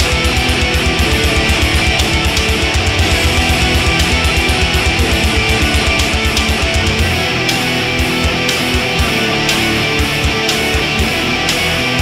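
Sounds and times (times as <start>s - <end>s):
heavy rock music: 0.0s - 12.0s.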